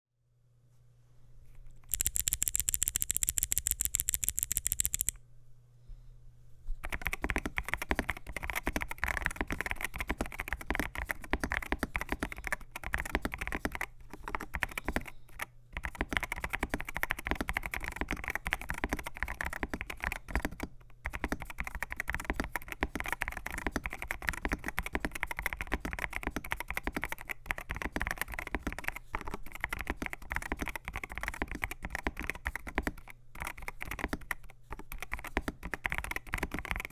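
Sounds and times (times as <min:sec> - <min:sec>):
mechanical keyboard typing: 0:01.9 - 0:05.2, 0:06.8 - 0:36.9.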